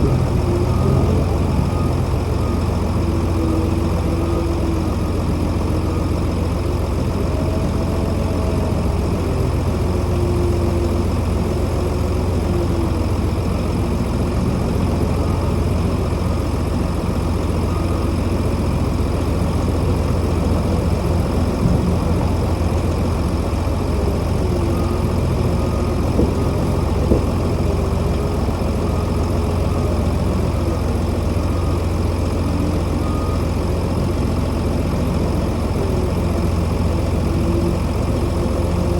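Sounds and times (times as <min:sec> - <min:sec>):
farm machinery engine droning: 0:00.0 - 0:38.9.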